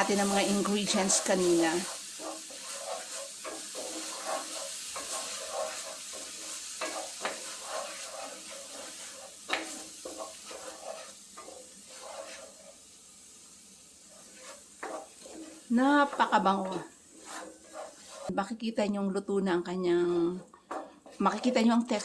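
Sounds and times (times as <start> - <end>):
utensil scraping pan: 0.0 - 12.8, 14.1 - 18.3, 20.0 - 22.0
paste sizzling in oil: 0.0 - 18.4.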